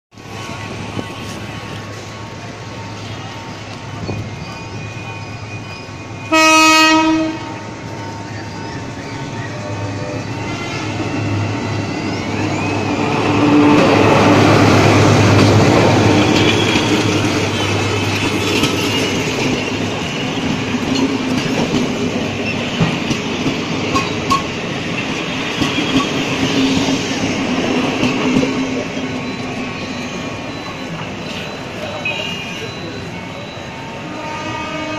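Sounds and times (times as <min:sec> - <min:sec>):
train carriages rumbling: 0:00.2 - 0:34.9.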